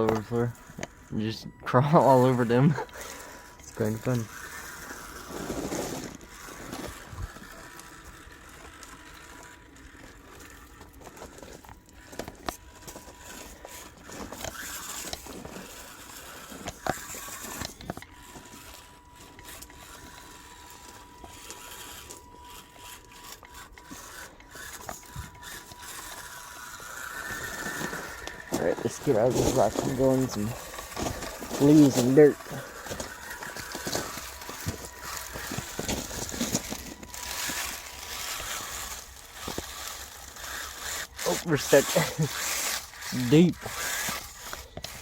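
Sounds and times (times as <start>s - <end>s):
tires scraping on rock: 0.0s - 45.0s
toy car motor whine: 0.0s - 45.0s.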